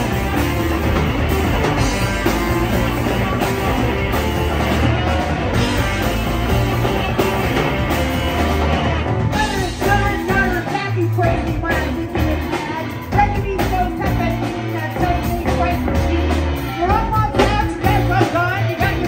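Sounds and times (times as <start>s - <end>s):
bass guitar: 0.0s - 19.0s
drums: 0.0s - 19.0s
electric guitars: 0.0s - 19.0s.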